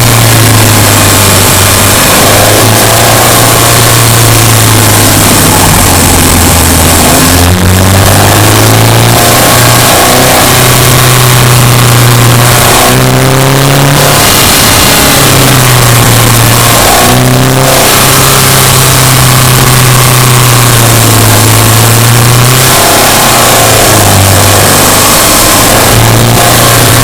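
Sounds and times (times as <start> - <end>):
car engine pulling under load: 0.0 - 27.0
road and wind noise: 0.0 - 27.0.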